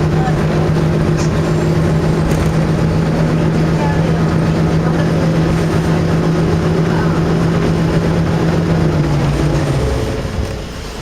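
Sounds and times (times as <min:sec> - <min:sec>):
diesel railcar engine drone: 0:00.0 - 0:11.0.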